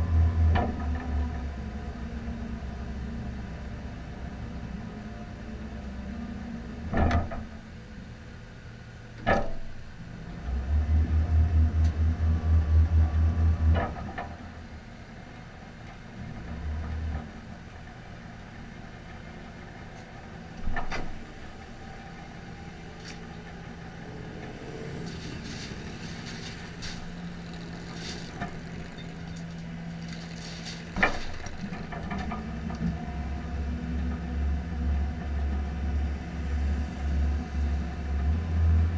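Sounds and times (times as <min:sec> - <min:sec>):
vehicle engine idling and revving: 0:00.0 - 0:38.9.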